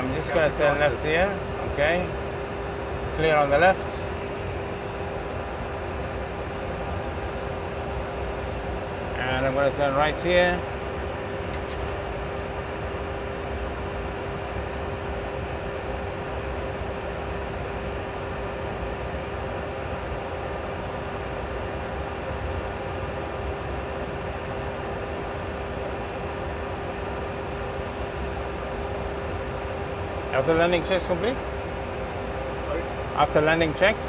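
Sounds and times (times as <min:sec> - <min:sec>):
cockpit hum: 0:00.0 - 0:34.0.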